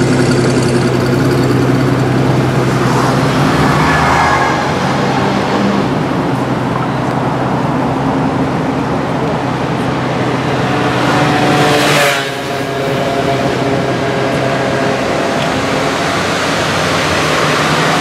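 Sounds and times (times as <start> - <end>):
car engine running at low speed: 0.0 - 18.0
rushing noise: 0.0 - 18.0.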